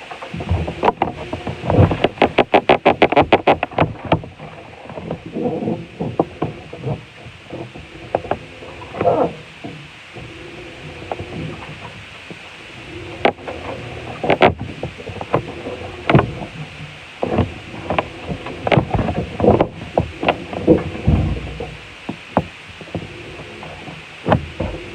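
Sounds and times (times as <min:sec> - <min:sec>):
knocks and clunks: 0:00.2 - 0:24.9.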